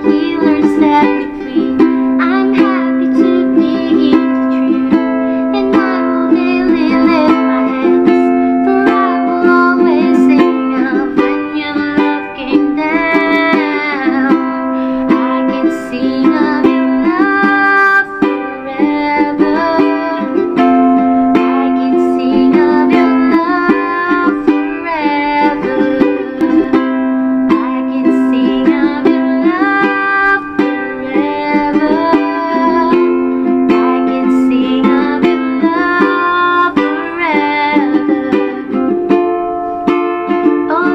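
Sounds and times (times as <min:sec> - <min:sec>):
ukulele plucked and strummed: 0:00.0 - 0:40.9.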